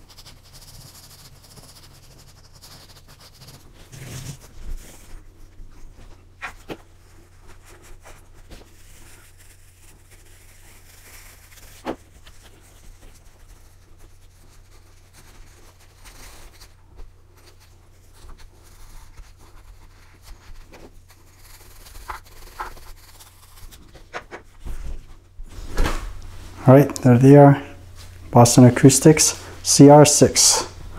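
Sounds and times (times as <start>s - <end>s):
brush and cloth rubbing wood: 0.0s - 30.9s
steady low hum: 3.4s - 30.9s.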